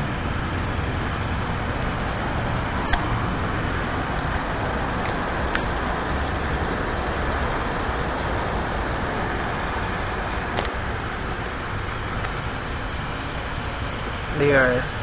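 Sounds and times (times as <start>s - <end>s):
car interior rushing hum: 0.0s - 15.0s.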